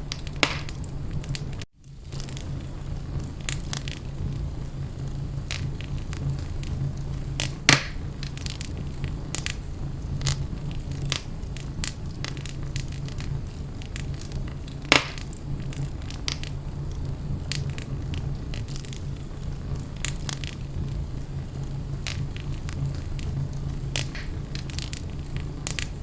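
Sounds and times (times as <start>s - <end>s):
fire popping: 0.0s - 26.0s
low steady rumble: 0.0s - 26.0s
wood fire crackling: 0.0s - 26.0s.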